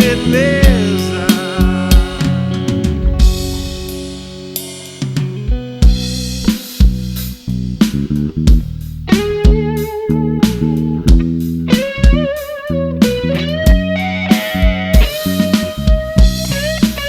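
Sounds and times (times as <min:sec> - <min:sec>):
electric guitar solo: 0:00.0 - 0:06.1, 0:09.1 - 0:17.0
bass guitar: 0:00.0 - 0:17.0
steady kick drum: 0:00.0 - 0:17.0.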